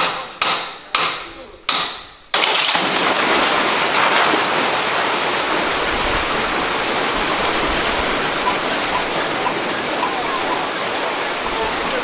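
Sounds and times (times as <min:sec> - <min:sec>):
fish and water splashing out: 0:02.3 - 0:12.0.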